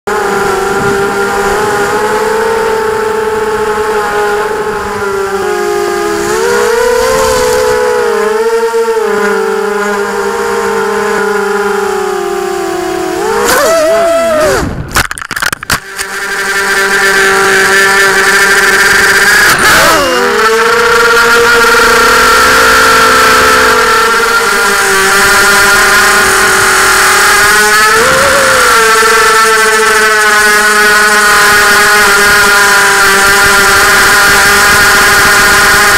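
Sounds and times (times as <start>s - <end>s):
quadcopter motors and propellers whining: 0.0s - 35.9s.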